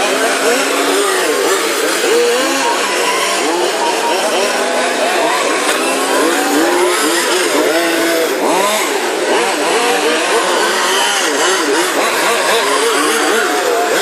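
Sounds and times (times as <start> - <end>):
model car engines revving: 0.0 - 14.0.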